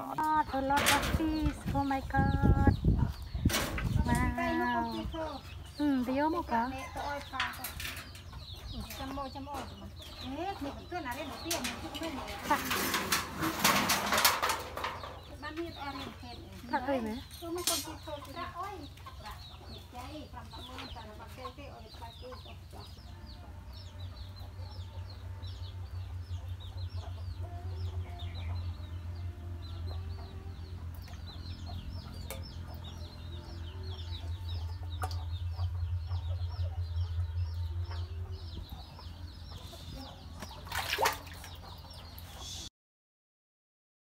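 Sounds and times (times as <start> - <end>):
chicks cheeping: 0.0 - 12.3, 13.7 - 42.7
chickens clucking: 0.0 - 42.7
steady low hum: 0.0 - 42.7.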